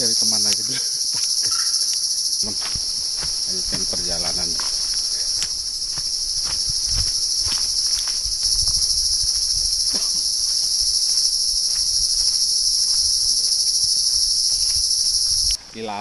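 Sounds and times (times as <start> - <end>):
insect chorus buzzing: 0.0 - 16.0.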